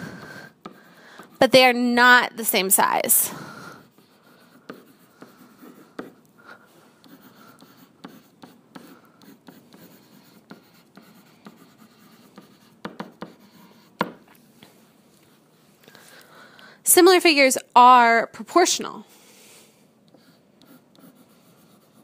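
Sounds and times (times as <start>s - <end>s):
stylus scratching on tablet screen: 0.1s - 15.7s, 19.9s - 22.0s.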